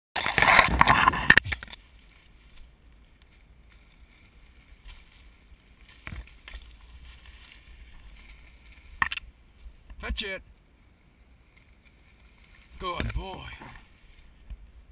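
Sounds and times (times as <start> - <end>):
dry grass rustling against camera: 0.2 - 14.9.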